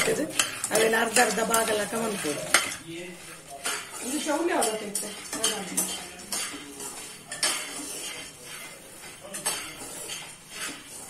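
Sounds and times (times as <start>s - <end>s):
metal spoon stirring peanuts in pan: 0.0s - 11.0s.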